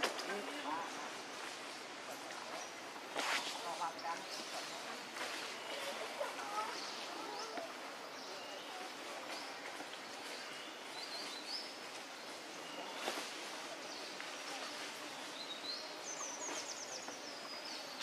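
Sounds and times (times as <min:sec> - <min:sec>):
forest background hiss: 0:00.0 - 0:18.0.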